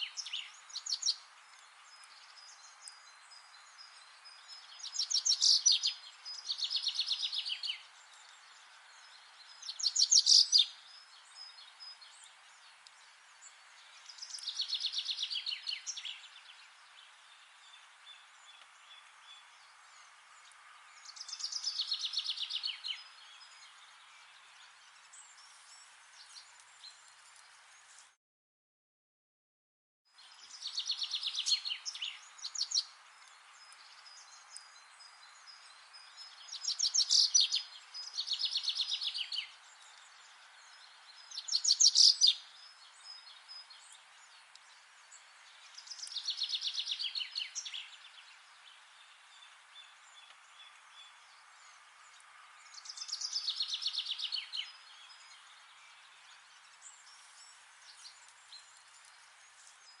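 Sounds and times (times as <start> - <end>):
songbird singing: 0.0 - 28.2, 30.1 - 60.0.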